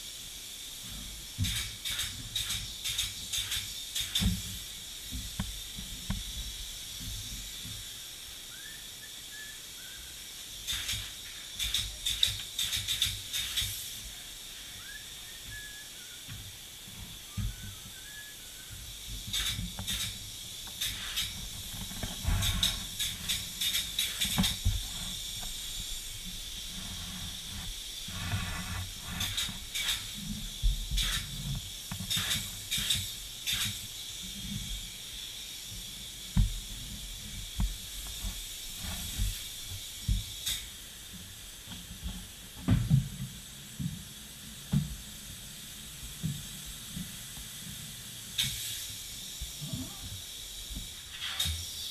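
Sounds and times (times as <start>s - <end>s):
spray foam gun hissing: 0.0s - 51.9s.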